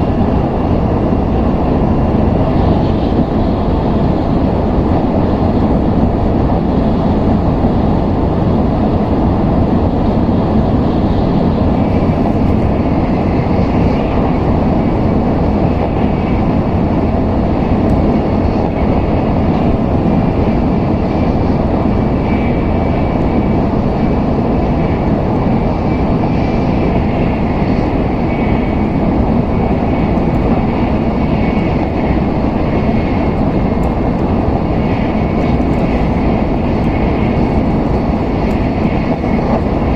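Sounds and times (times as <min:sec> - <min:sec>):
train wheels and air rumbling: 0:00.0 - 0:39.9.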